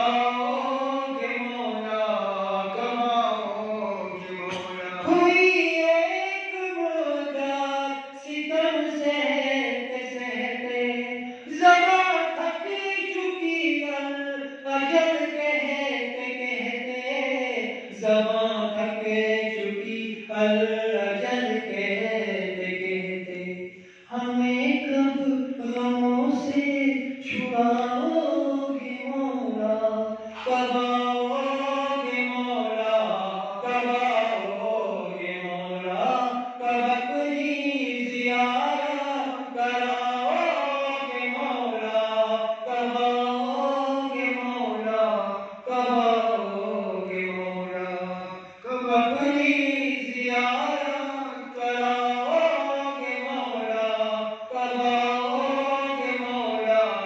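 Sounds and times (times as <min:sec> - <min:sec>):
men chanting: 0:00.0 - 0:14.1, 0:14.8 - 0:57.0.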